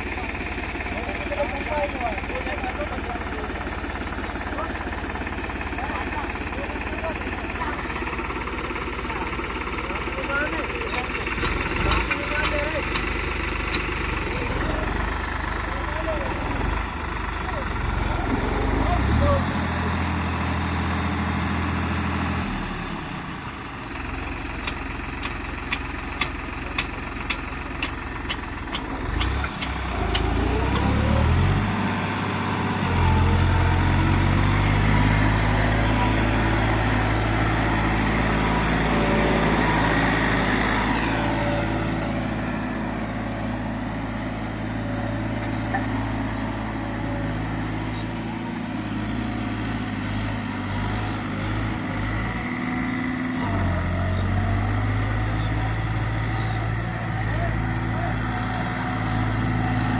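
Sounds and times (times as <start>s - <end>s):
tractor diesel engine: 0.0s - 59.9s.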